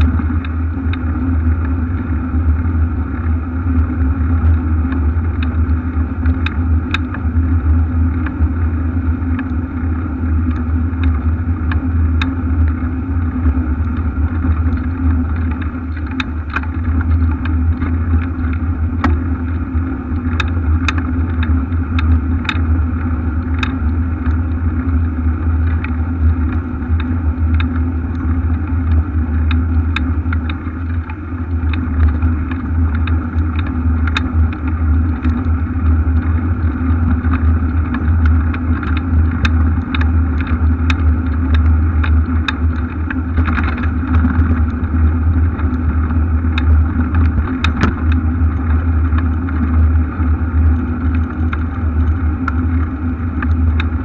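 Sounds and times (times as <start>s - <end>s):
bicycle rumble over brick paving: 0.0s - 54.0s
bike rattles and ticks: 0.0s - 54.0s
wind on microphone: 0.0s - 54.0s.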